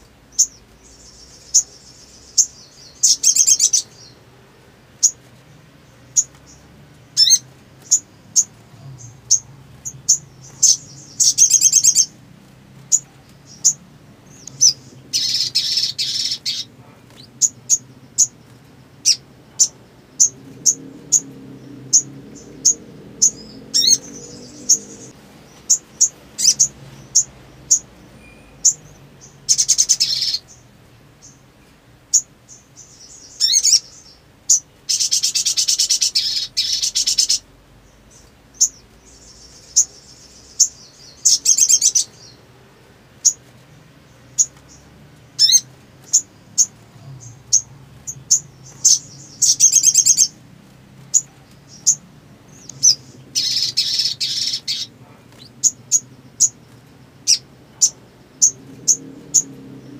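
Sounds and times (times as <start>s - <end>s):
bird chirping and trilling: 0.2s - 4.2s, 4.9s - 12.2s, 12.8s - 42.4s, 44.1s - 50.4s, 51.1s - 59.9s.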